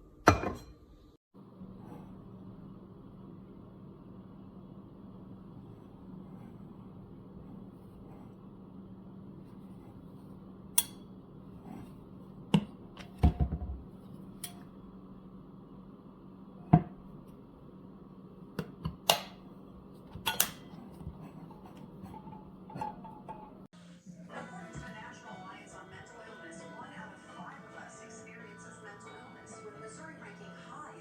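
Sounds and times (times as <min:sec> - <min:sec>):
steady low hum: 0:01.4 - 0:26.2.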